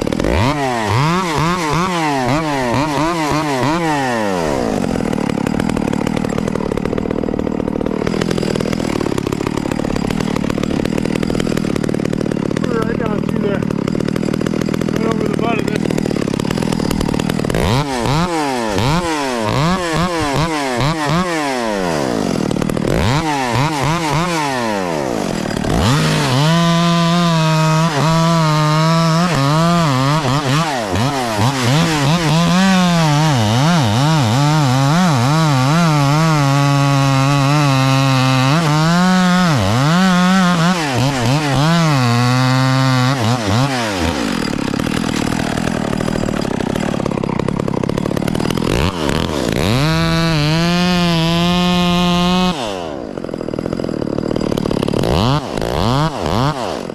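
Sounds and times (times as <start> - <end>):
chainsaw revving and cutting wood: 0.0 - 56.9.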